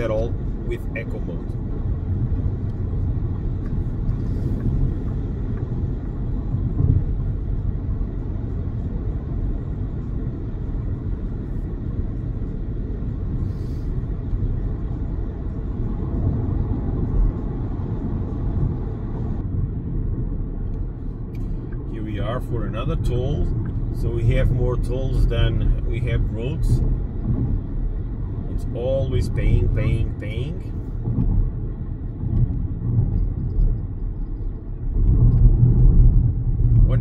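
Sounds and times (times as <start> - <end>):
tyre and road rumble in car: 0.0 - 37.0.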